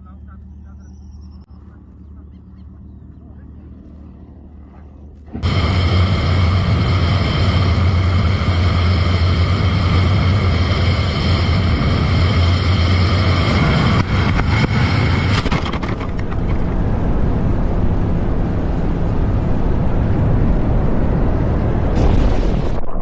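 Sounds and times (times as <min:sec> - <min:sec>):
light aircraft engine droning: 0:00.0 - 0:22.5
rough noisy rumble: 0:01.4 - 0:23.0.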